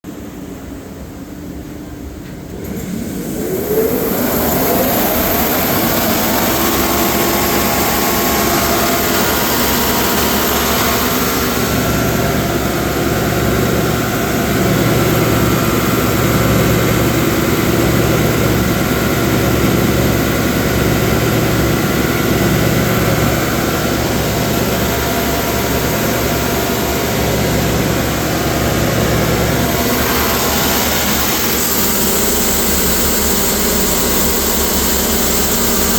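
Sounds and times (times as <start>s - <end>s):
machine motor whining: 2.5s - 35.9s.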